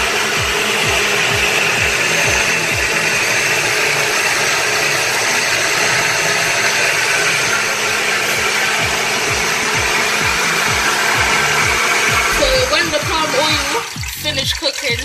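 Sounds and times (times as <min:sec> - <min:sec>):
low thudding music beat: 0:00.0 - 0:05.3, 0:07.2 - 0:15.0
loud rushing whirring noise: 0:00.0 - 0:14.2.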